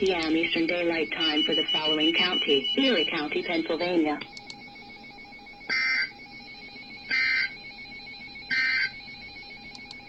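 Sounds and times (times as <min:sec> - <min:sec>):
faint steady tones: 0:00.0 - 0:10.0.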